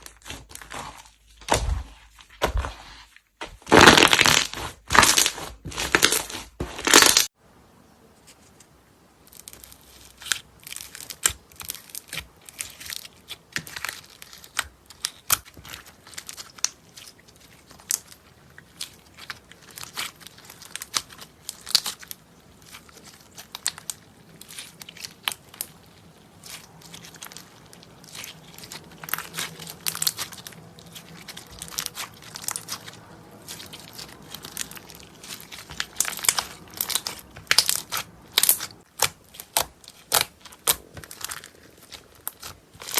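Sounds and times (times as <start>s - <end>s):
slime crackling when squeezed: 3.7s - 7.3s, 9.2s - 42.9s.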